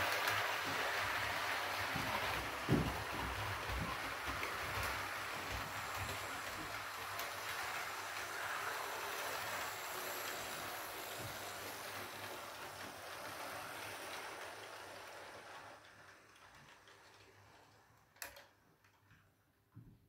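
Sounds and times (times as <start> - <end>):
model train rushing on rails: 0.0 - 18.5.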